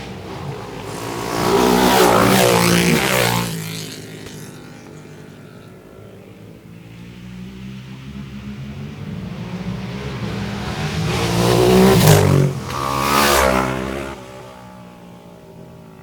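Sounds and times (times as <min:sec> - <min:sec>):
engine approaching: 0:00.0 - 0:16.0
racing motorcycle passing: 0:00.0 - 0:16.0.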